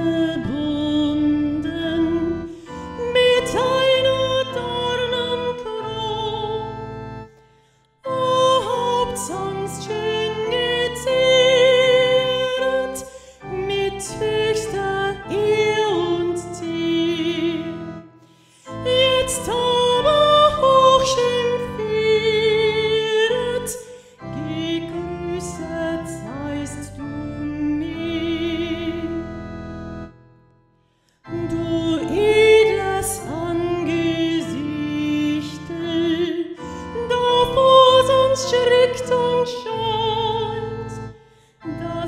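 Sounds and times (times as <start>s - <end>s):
keyboard accompaniment: 0.0s - 42.0s.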